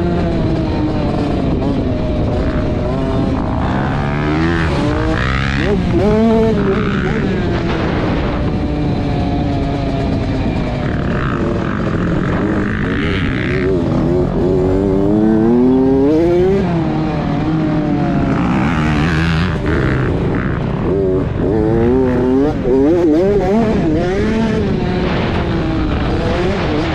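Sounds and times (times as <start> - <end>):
dirt bike engine revving: 0.0 - 26.9
steady rushing noise: 0.0 - 26.9.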